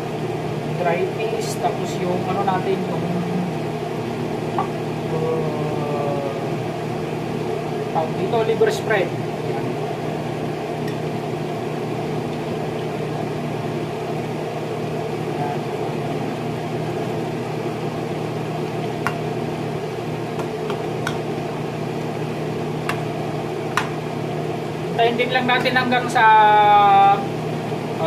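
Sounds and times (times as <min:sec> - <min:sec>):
steady whirring hum: 0:00.0 - 0:28.0.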